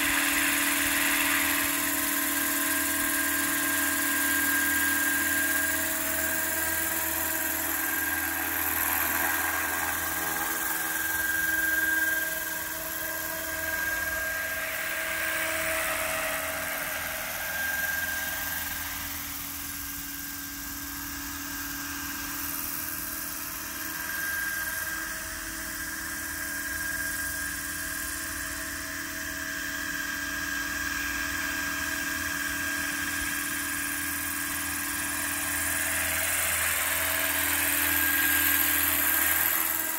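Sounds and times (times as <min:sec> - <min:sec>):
rotor blades rushing: 0:00.0 - 0:27.4, 0:32.1 - 0:39.9
model helicopter drive whine: 0:00.0 - 0:39.9.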